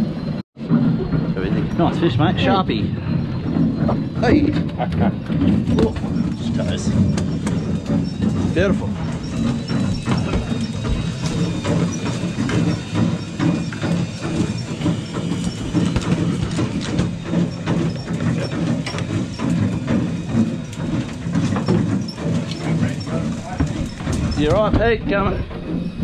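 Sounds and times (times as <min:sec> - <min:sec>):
boat machinery hum: 0:00.0 - 0:26.0.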